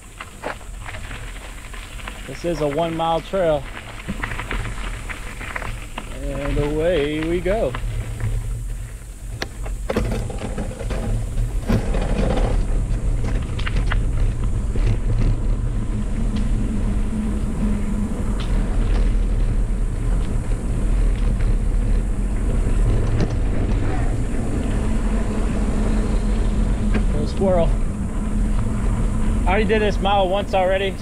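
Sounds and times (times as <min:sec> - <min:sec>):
bike clicks and rattles: 0:00.0 - 0:31.0
tyres rumbling on dirt: 0:00.0 - 0:31.0
wind on camera: 0:00.6 - 0:31.0.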